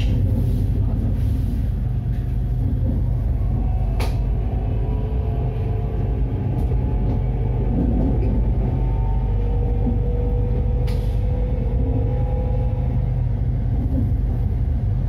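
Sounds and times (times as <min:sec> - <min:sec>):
train rumble inside carriage: 0:00.0 - 0:15.0.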